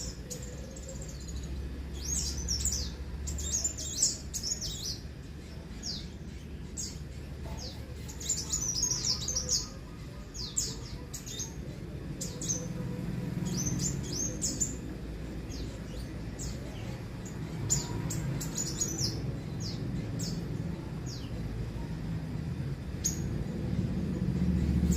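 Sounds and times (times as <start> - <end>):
low steady rumble: 0.0 - 24.9.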